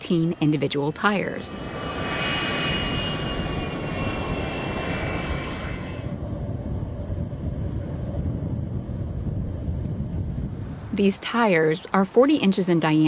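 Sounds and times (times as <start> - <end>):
jet engines whining: 0.0 - 13.0
low jet engine rumble: 0.0 - 13.0.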